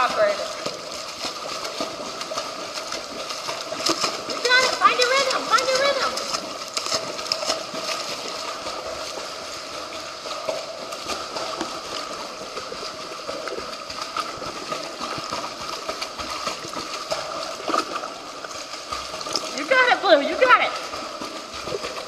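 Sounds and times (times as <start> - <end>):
dog paddling in water: 0.0 - 22.0.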